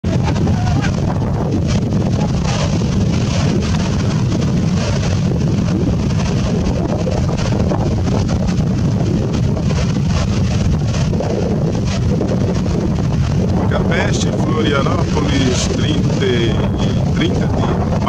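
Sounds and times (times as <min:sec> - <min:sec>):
surf washing on beach: 0:00.0 - 0:18.0
wind rumbling on microphone: 0:00.0 - 0:18.0.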